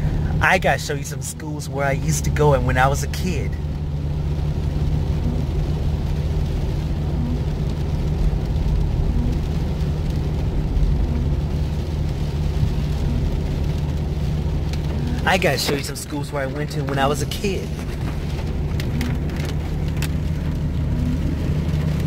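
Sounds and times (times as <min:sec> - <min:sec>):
car engine and tyre noise: 0:00.0 - 0:22.0.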